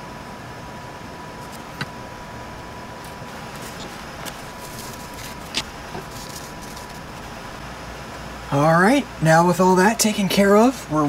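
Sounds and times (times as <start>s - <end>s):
bench equipment hum: 0.0s - 11.0s
faint constant whine: 0.0s - 11.0s.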